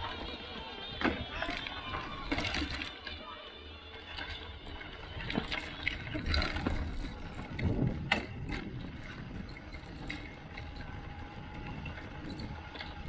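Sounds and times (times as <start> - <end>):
tyres rumbling on gravel: 0.0 - 13.0.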